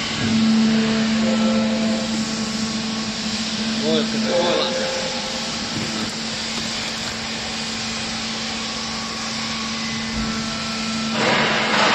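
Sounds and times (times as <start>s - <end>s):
hydraulic pump motor humming: 0.0s - 11.1s.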